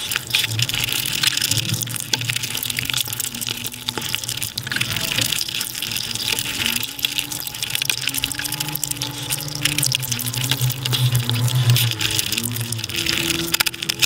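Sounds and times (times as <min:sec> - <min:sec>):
sped-up eating sounds: 0:00.0 - 0:14.0
low steady hum: 0:01.5 - 0:14.0.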